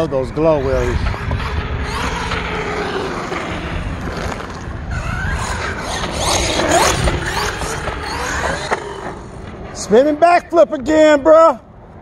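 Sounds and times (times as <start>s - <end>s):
electric motor whining: 0.0s - 9.7s.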